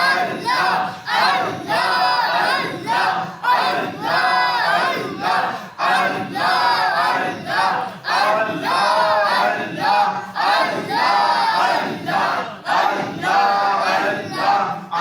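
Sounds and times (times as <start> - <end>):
congregation chanting: 0.0 - 15.0.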